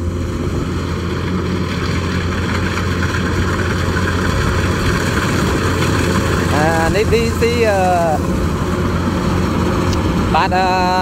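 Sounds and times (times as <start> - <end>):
diesel engine low hum: 0.0 - 11.0.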